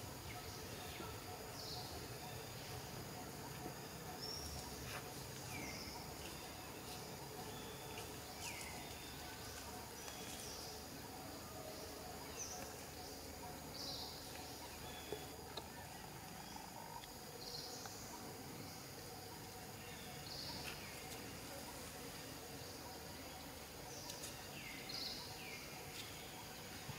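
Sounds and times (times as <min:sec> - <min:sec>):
insect buzz: 0:00.0 - 0:26.9.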